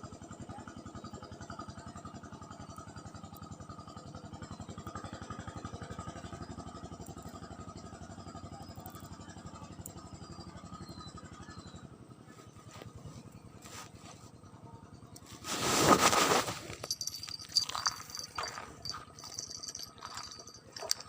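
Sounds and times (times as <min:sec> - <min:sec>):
small engine puttering: 0:00.4 - 0:21.0.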